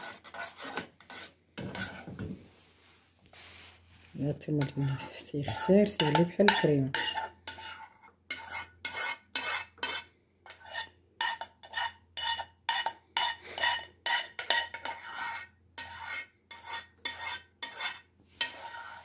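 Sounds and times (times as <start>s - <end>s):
spoon scraping metal saucepan: 0.0s - 2.3s, 4.3s - 19.0s.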